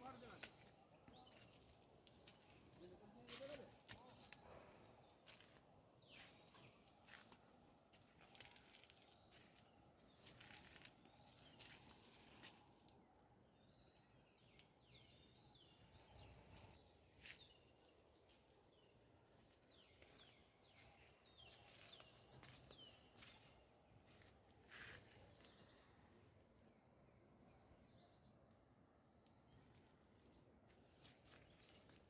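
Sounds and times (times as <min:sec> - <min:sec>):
small birds chirping: 0:00.0 - 0:26.7.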